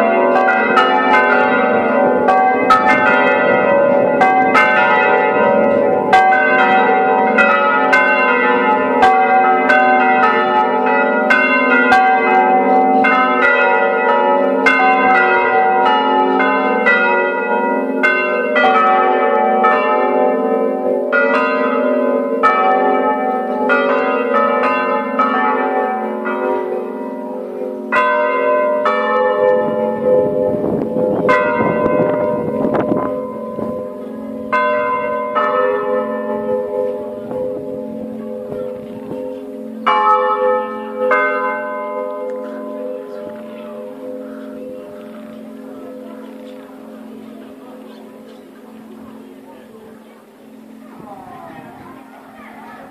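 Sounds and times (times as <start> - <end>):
church bells ringing in a peal: 0.0 - 52.9.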